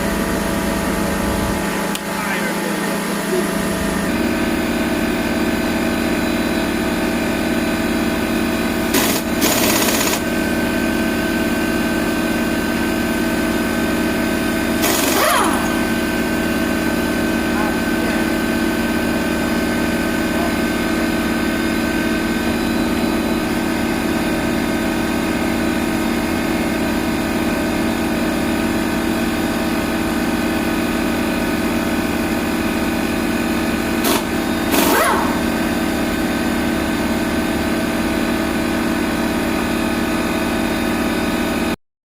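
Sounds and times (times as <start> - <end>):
generator engine running: 0.0 - 41.8.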